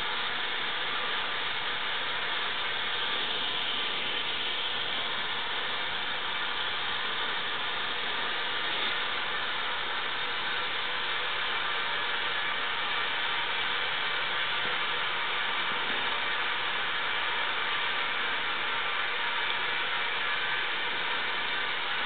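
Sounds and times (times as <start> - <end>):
propane burner hissing: 0.0 - 22.0.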